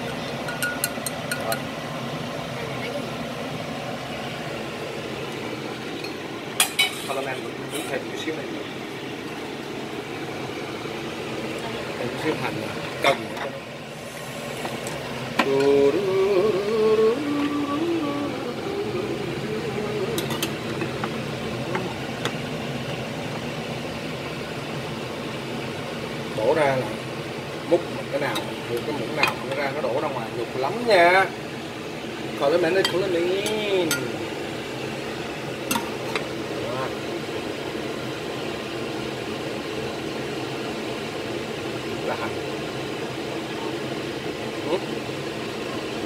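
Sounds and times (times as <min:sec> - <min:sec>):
kitchen fan humming: 0:00.0 - 0:46.0.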